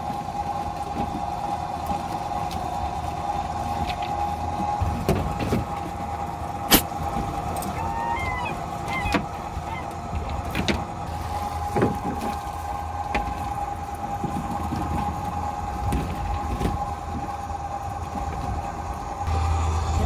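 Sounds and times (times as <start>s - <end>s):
boat engine rumble: 0.0s - 20.0s
line hauler whine: 0.0s - 20.0s.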